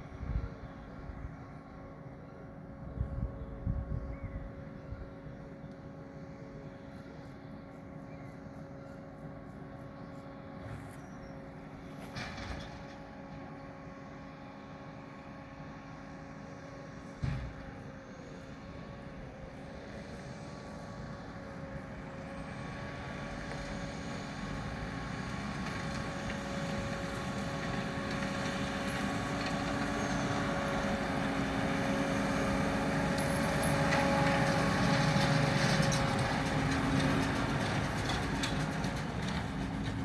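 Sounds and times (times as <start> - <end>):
tractor and baler mechanical hum: 0.0 - 40.0.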